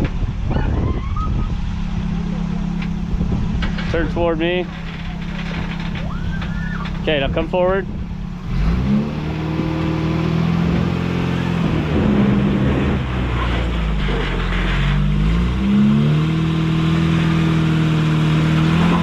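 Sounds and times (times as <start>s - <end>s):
pickup engine revving under load: 0.0s - 19.0s.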